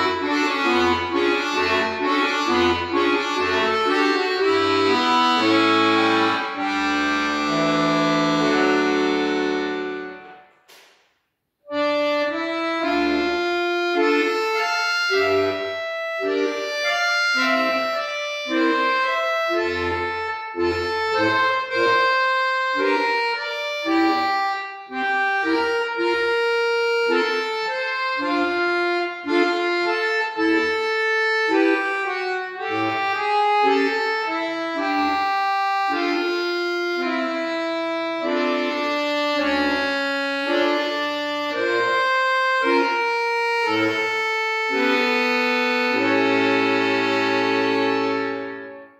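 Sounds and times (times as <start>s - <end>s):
accordion playing: 0.0s - 10.9s, 11.6s - 48.9s.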